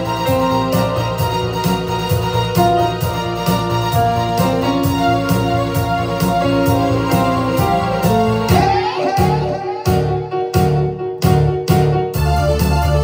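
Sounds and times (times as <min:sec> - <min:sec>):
keyboard with sustained chords: 0:00.0 - 0:11.2.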